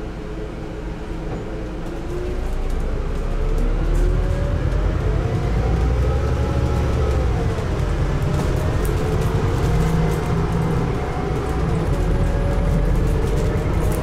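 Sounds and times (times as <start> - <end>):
bus engine deep rumble: 0.0 - 14.0.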